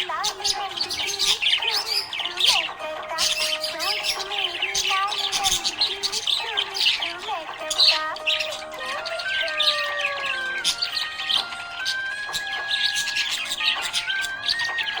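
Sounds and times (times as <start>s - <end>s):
background music: 0.0s - 15.0s
budgerigars chirping: 0.0s - 15.0s.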